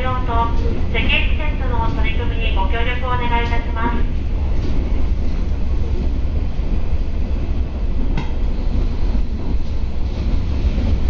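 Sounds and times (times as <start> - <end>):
train wheels and engine rumbling: 0.0 - 11.0.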